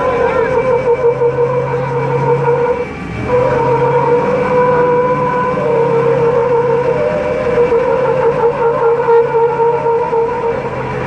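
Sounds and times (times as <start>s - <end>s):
engines working hard under load: 0.0s - 11.0s.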